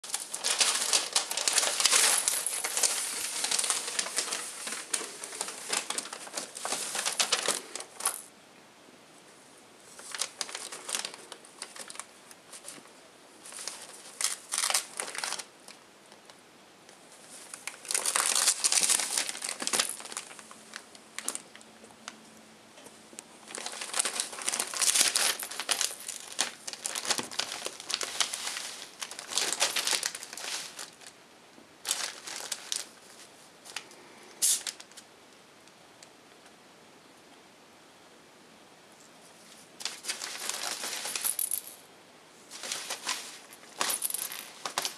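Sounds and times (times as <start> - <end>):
crinkly wrapping rustling: 0.0 - 8.3, 9.8 - 22.2, 23.2 - 31.2, 31.8 - 35.1, 39.4 - 41.8, 42.5 - 44.9.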